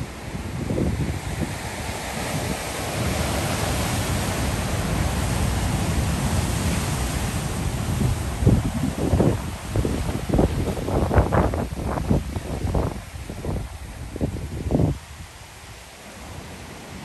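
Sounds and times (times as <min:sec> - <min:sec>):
wind buffeting microphone: 0:00.0 - 0:15.5
ocean surf washing in: 0:00.0 - 0:17.0.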